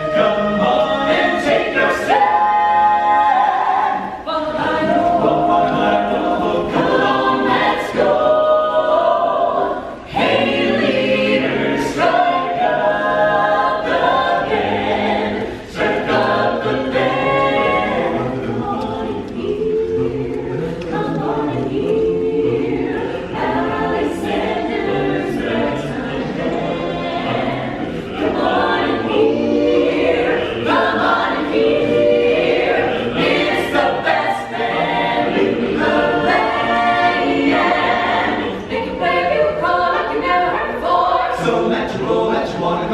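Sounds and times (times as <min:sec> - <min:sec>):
choir singing a cappella: 0:00.0 - 0:42.9.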